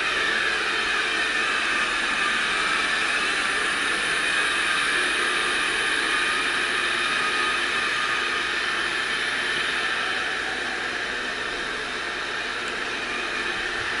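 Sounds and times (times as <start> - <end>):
robot vacuum cleaner whirring: 0.0 - 14.0.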